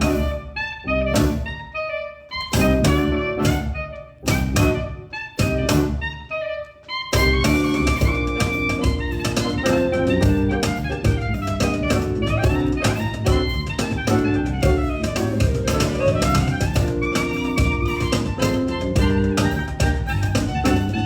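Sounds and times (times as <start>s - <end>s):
band playing live: 0.0s - 1.6s, 2.4s - 6.1s, 7.1s - 21.0s.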